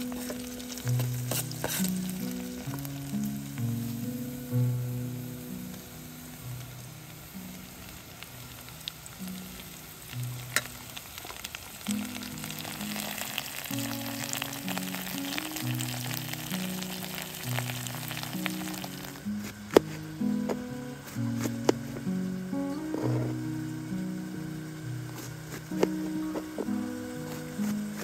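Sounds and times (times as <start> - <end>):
meat sizzling in a pot: 0.0 - 28.0.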